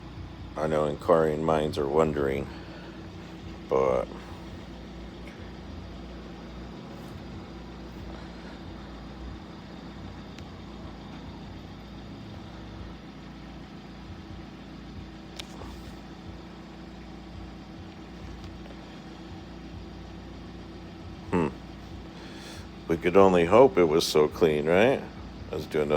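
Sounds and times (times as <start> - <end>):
steady mechanical hum: 0.0 - 25.9.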